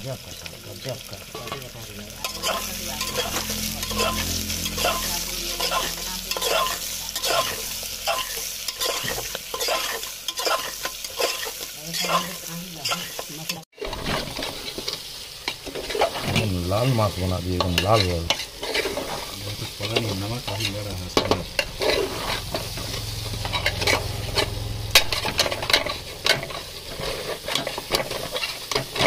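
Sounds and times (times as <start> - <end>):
onions sizzling in oil: 0.0 - 29.0
metal spoon scraping pot: 1.3 - 29.0.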